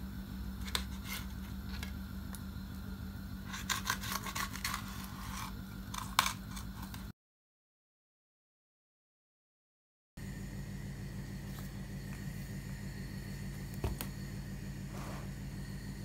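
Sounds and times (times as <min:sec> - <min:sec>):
steady low hum: 0:00.0 - 0:07.1, 0:10.2 - 0:16.0.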